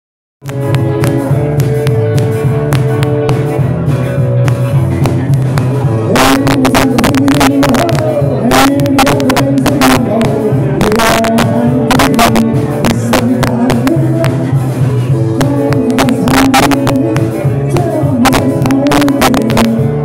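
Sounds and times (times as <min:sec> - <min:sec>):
electric guitars: 0:00.4 - 0:20.0
steady drum beat: 0:00.4 - 0:20.0.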